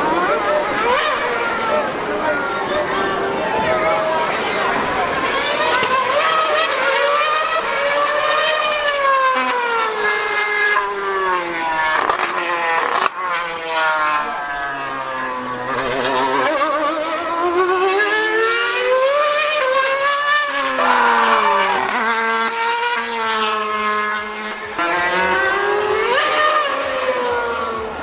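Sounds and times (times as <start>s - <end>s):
race car engine screaming: 0.0s - 28.0s.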